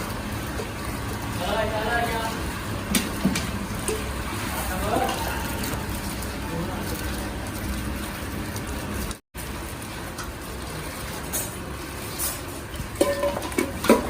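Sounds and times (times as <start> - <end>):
factory machinery noise: 0.0 - 14.0.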